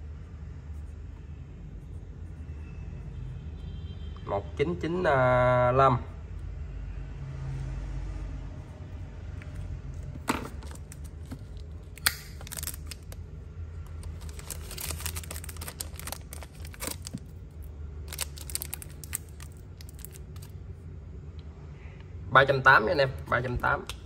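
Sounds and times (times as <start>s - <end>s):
low steady hum: 0.0s - 4.2s, 5.2s - 24.0s.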